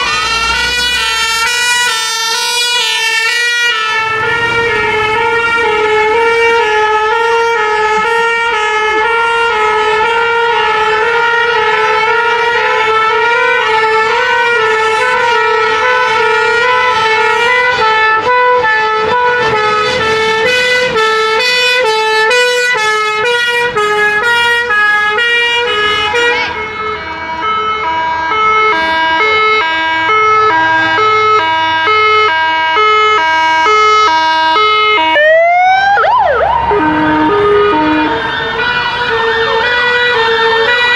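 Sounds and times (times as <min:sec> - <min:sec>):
rising siren wail: 0:00.0 - 0:40.9
two-tone fire engine sirens: 0:00.0 - 0:40.9.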